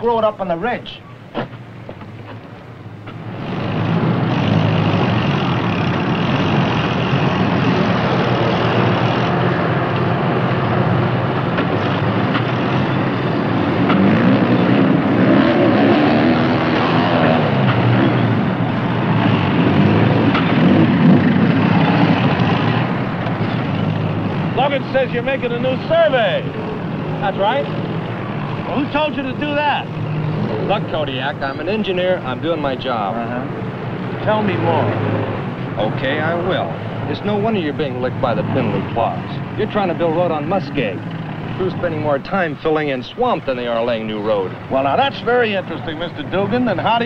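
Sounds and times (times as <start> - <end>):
heavy engine revving: 3.2 - 42.2.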